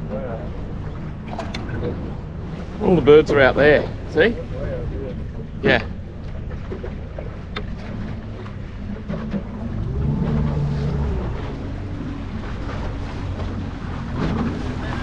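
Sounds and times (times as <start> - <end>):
outboard motor running: 0.0 - 15.0
water noise: 0.0 - 15.0.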